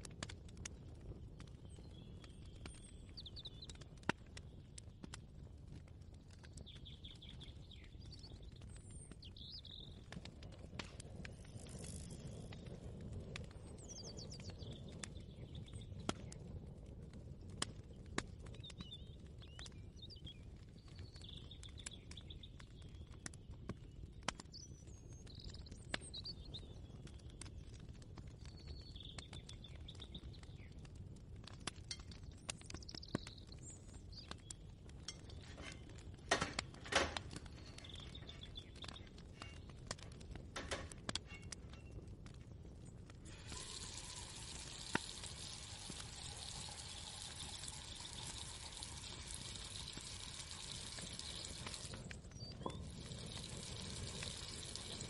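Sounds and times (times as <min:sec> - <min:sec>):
birds chirping: 0:00.9 - 0:16.6, 0:17.5 - 0:30.9, 0:31.6 - 0:55.0.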